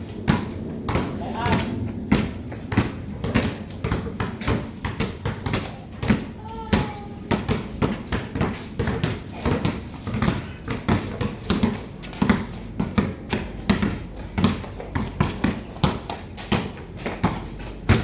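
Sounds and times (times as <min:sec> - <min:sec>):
basketballs bouncing on court: 0:00.0 - 0:18.0.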